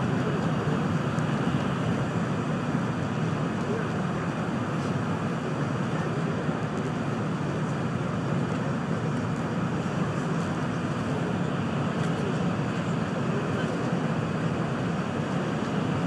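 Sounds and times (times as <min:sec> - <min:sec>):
low train cabin rumble: 0:00.0 - 0:16.0.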